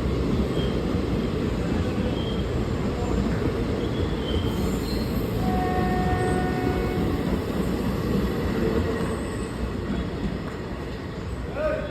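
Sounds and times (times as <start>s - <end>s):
train rumbling on track: 0.0s - 11.9s.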